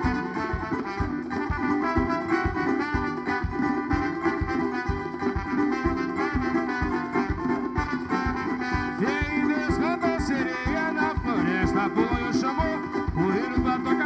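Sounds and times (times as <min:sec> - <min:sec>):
band playing instrumental: 0:00.0 - 0:14.0
steady drum beat: 0:00.0 - 0:14.0.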